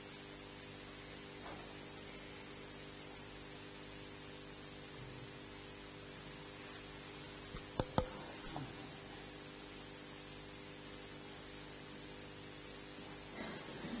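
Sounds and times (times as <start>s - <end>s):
sound system hiss and hum: 0.0s - 14.0s.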